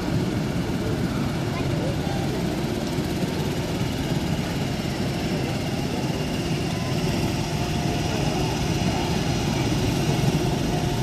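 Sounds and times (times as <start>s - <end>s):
bumper boat engines droning: 0.0s - 11.0s.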